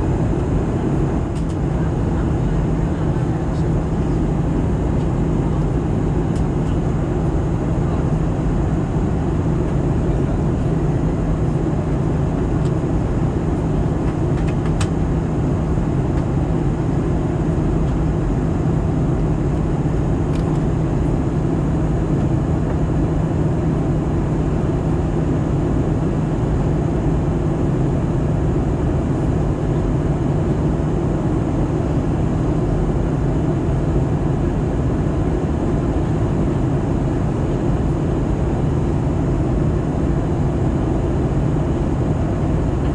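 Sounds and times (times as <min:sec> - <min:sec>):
airliner cabin engine rumble: 0:00.0 - 0:42.9
steady low hum: 0:00.0 - 0:42.9.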